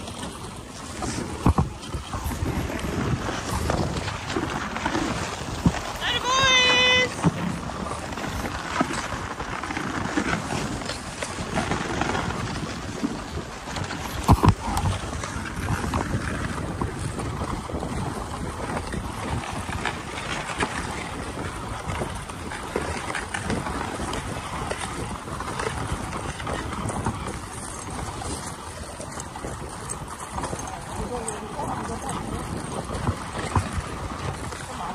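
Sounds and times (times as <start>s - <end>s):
sled rushing over snow: 0.0s - 34.9s
wind on microphone: 0.0s - 34.9s.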